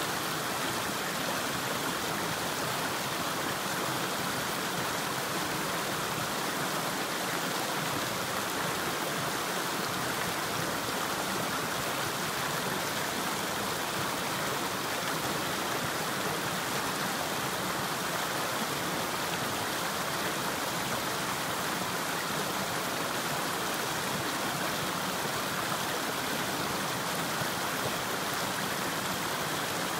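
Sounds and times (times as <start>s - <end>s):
stream rushing over boulders: 0.0s - 29.9s.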